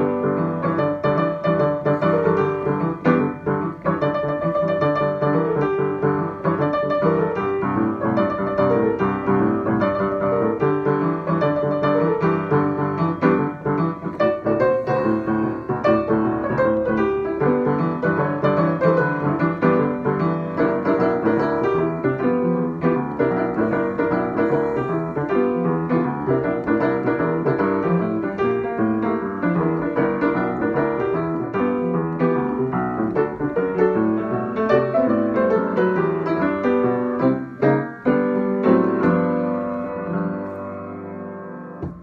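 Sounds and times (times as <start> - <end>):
upright piano playing boogie-woogie: 0.0 - 42.0.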